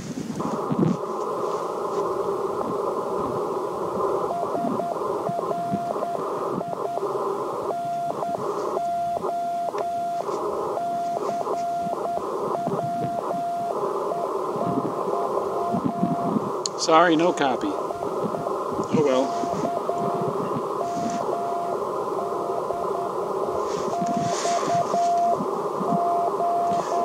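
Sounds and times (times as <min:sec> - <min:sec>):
radio receiver hiss: 0:00.0 - 0:27.0
morse code tone: 0:04.1 - 0:27.0.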